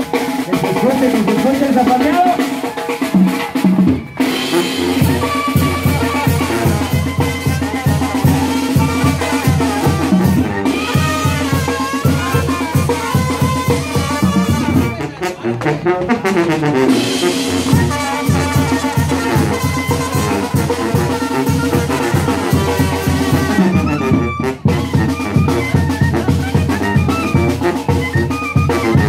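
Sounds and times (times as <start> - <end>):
bass drum beat: 0.0 - 29.0
brass band playing: 0.0 - 29.0.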